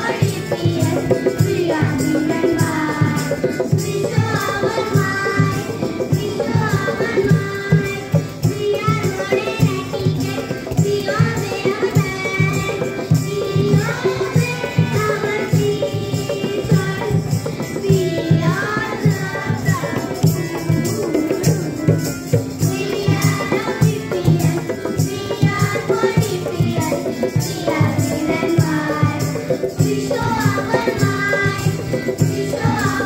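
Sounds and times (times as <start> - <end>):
children singing into microphone: 0.0 - 33.0
harmonium: 0.0 - 33.0
tabla drums: 0.0 - 33.0.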